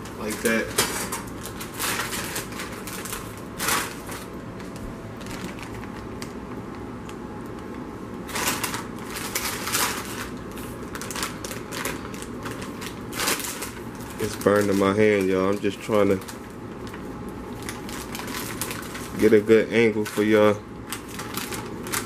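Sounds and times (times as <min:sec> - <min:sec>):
plastic snack bag crinkling: 0:00.1 - 0:06.8, 0:08.2 - 0:22.0.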